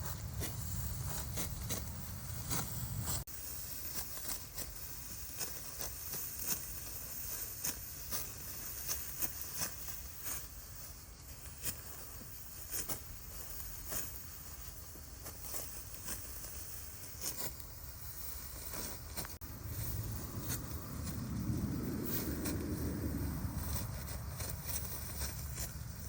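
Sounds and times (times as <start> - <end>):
dry stalks rustling: 0.0 - 26.0
sickle snipping dry stalks: 0.0 - 26.0.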